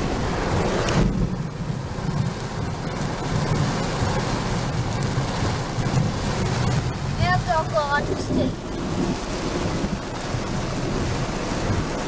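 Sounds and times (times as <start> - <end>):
constant low rumble: 0.0 - 12.0
gusting wind: 0.0 - 12.0
heavy rain on a car: 0.0 - 12.0.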